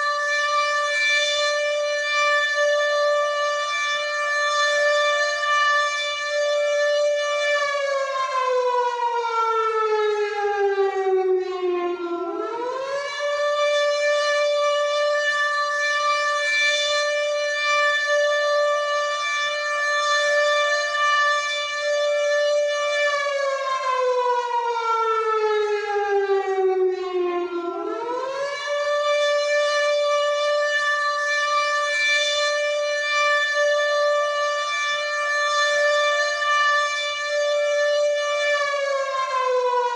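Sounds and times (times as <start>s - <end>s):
air raid siren: 0.0s - 39.9s.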